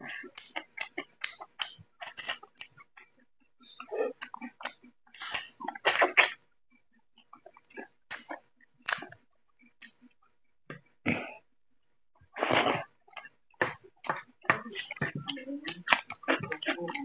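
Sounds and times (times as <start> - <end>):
man chewing food: 0.0 - 17.0.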